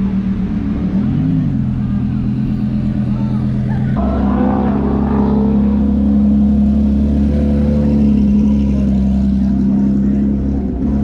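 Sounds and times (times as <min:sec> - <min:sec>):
car engine running: 0:00.1 - 0:11.0.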